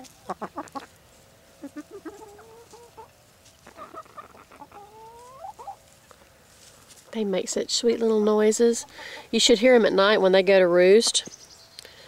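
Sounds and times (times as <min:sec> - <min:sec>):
hens clucking: 0:00.0 - 0:07.3, 0:08.0 - 0:10.4.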